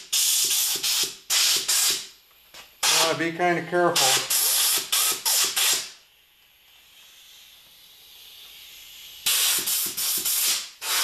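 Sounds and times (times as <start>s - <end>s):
compressed air blasts: 0.0s - 3.3s, 3.9s - 11.0s.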